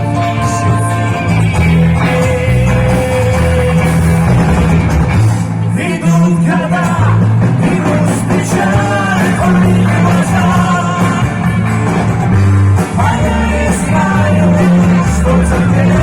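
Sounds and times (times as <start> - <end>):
person singing: 0.0 - 4.3, 5.8 - 11.7, 12.8 - 16.0
live rock band playing: 0.0 - 16.0.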